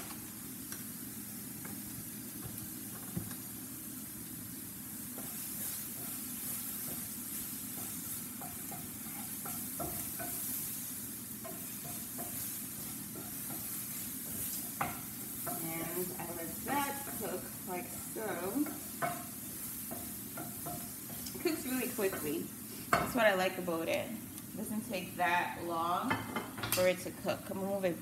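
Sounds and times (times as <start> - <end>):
vegetables sizzling in a skillet: 0.0 - 28.0.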